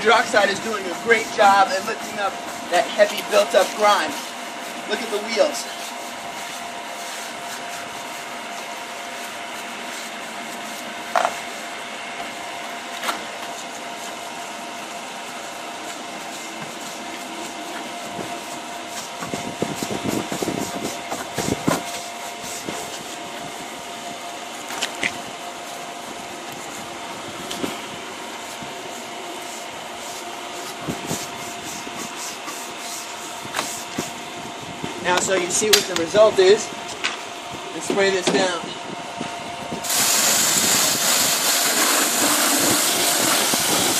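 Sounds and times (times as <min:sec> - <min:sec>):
stiff brush scrubbing wet metal: 0:00.0 - 0:34.6, 0:39.8 - 0:43.9
steady hum: 0:00.0 - 0:43.9.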